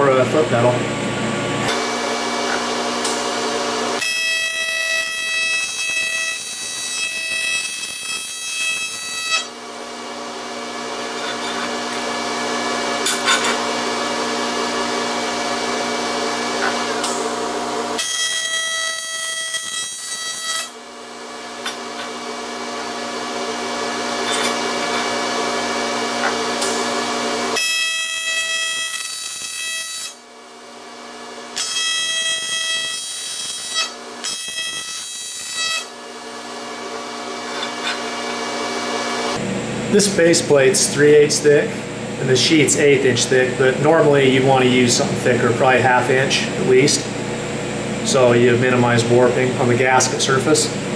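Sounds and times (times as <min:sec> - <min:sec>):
welding arc buzzing: 0:00.4 - 0:50.9.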